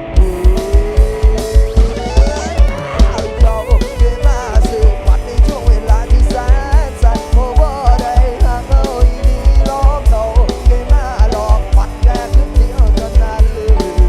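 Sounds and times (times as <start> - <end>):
gliding melody line: 0.0 - 14.0
heavy bass drum beat: 0.0 - 14.0.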